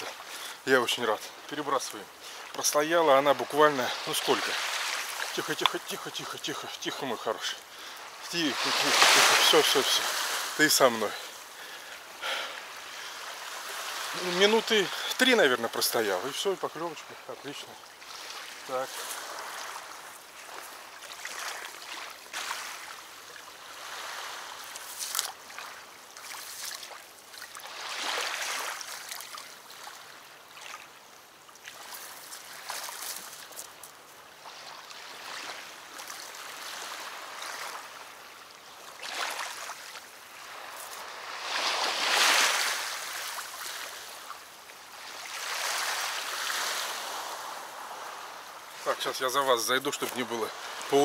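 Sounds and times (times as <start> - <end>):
small waves lapping: 0.0 - 51.0.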